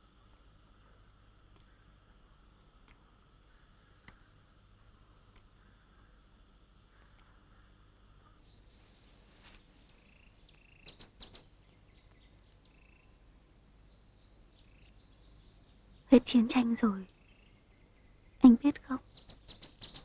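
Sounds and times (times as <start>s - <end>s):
night insects trilling: 0.0s - 20.0s
small birds chirping: 0.0s - 20.0s.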